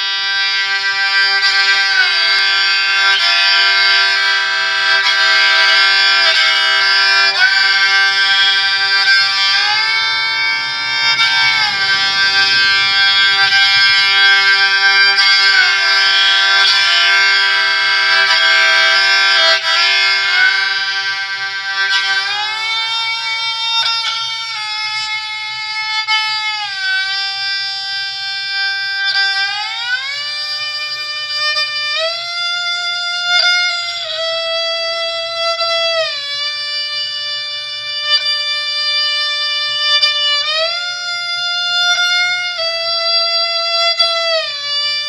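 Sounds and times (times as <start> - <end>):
bowed fiddle melody with drone: 0.0 - 45.0.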